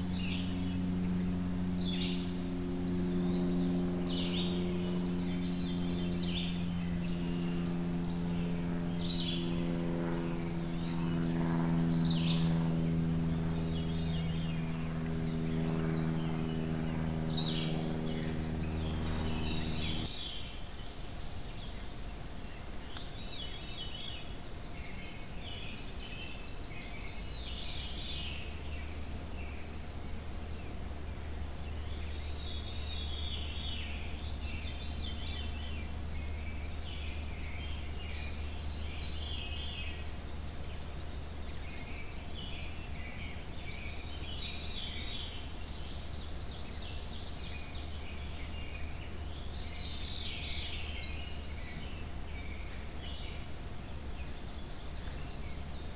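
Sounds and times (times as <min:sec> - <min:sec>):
songbirds singing: 0:00.0 - 0:55.9
steady low hum: 0:00.0 - 0:55.9.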